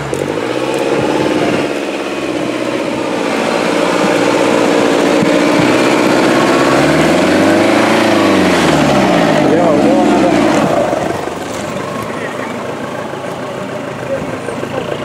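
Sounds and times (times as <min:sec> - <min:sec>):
buggy engine running and revving: 0:00.0 - 0:15.0.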